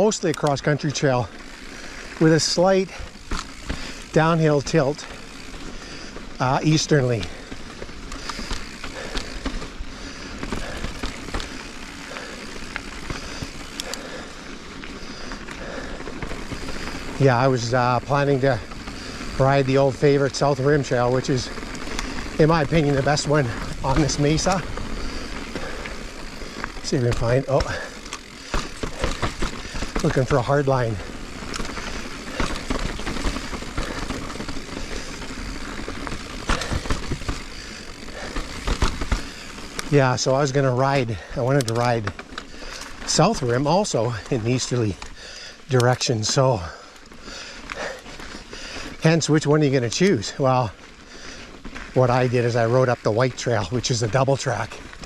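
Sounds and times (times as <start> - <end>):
bike clicks and knocks: 0.0 - 50.2
bike tyres on dirt trail: 0.0 - 55.0.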